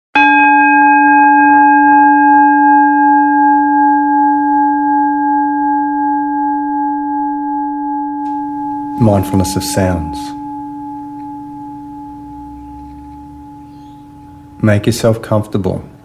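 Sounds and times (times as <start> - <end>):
meditation bell ringing: 0.2 - 16.0.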